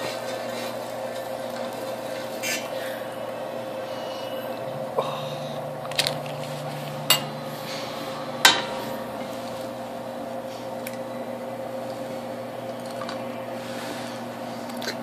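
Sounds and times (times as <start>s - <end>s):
oven turning tray hum: 0.0s - 15.0s.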